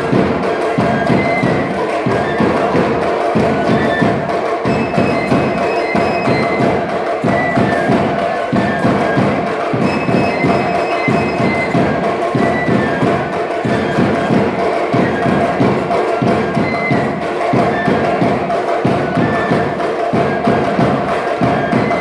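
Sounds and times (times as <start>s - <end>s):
drum beats: 0.0s - 22.0s
reed flute melody: 0.0s - 22.0s.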